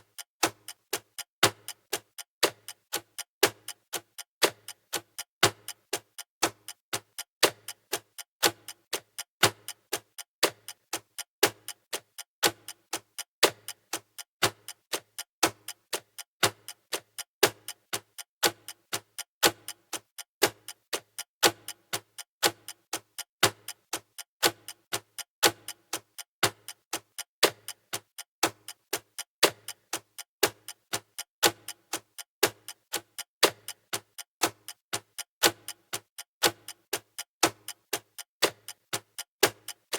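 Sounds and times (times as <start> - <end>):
countdown timer ticking: 0.0 - 39.9.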